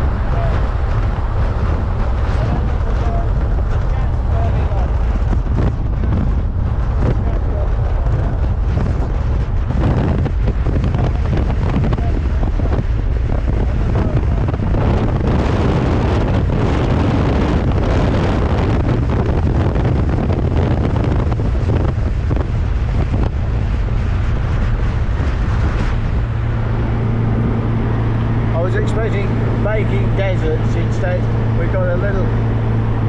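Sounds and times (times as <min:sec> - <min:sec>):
car engine droning: 0:00.0 - 0:33.0
road noise: 0:00.0 - 0:33.0
wind buffeting microphone: 0:00.0 - 0:33.0.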